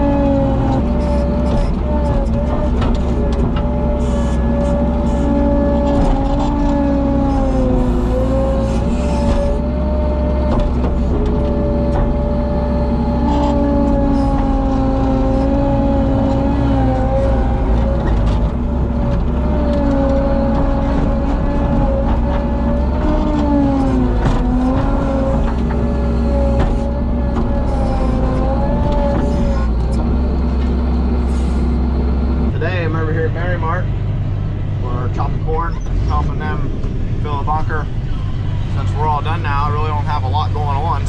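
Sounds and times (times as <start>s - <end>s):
loader engine rumbling with whine: 0.0s - 41.0s.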